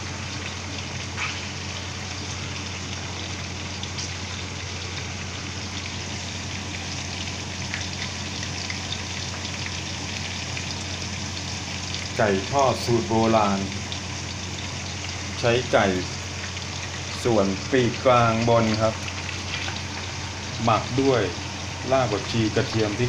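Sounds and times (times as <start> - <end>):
oil sizzling with pops: 0.0 - 23.0.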